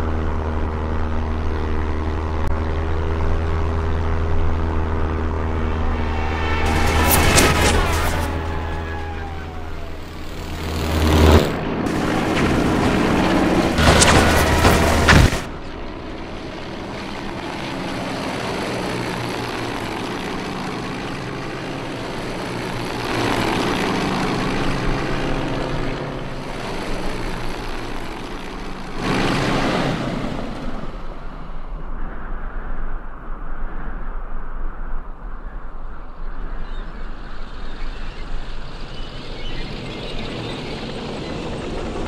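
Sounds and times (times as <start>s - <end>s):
propeller planes droning: 0.0s - 42.0s.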